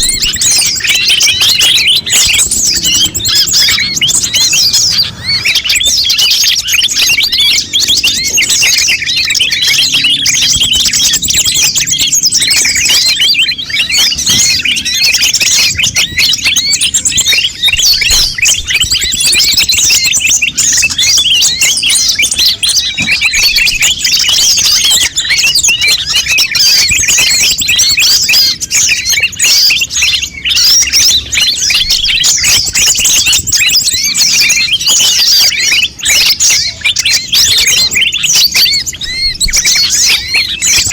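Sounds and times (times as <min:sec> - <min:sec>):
birds chirping noisily: 0:00.0 - 0:40.9.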